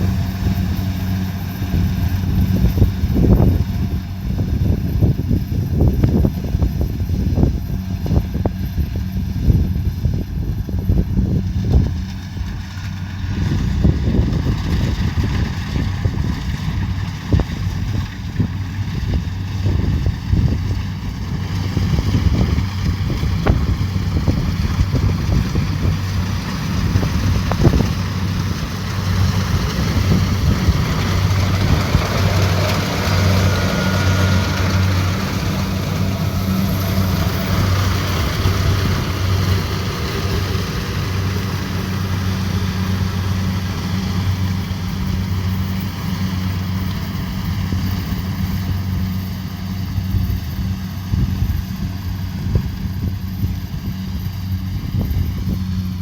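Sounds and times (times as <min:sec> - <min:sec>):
diesel engine hum: 0:00.0 - 0:56.0.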